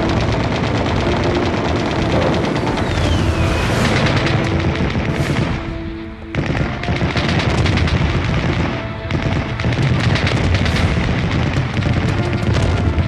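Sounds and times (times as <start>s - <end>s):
automatic gunfire: 0.0s - 13.0s
booming explosions: 0.0s - 13.0s
music soundtrack: 0.0s - 13.0s.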